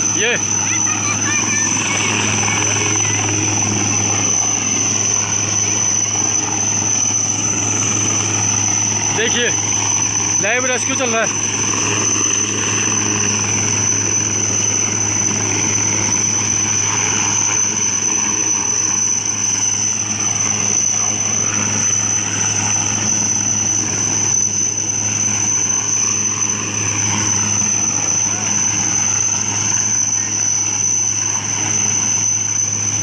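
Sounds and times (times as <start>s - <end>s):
helicopter hovering with high whine: 0.0s - 33.0s.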